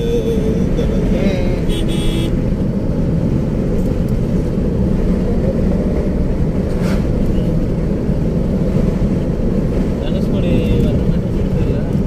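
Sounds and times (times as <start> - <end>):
car engine: 0.0 - 12.0.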